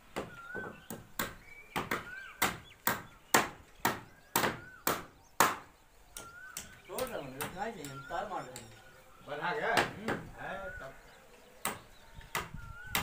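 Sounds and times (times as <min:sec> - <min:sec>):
hammer blows on wood: 0:00.0 - 0:08.8, 0:09.6 - 0:10.4, 0:11.6 - 0:13.0.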